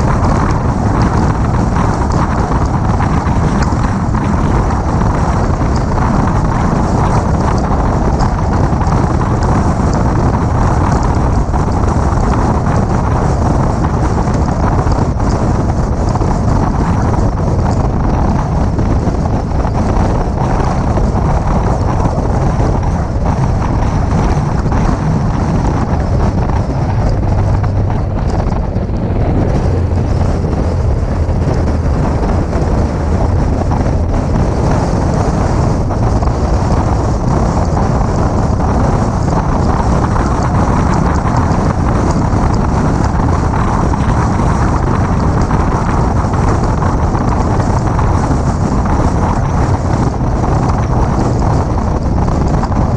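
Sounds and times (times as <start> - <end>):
car engine and tyre noise: 0.0 - 52.9
wind buffeting microphone: 0.0 - 52.9.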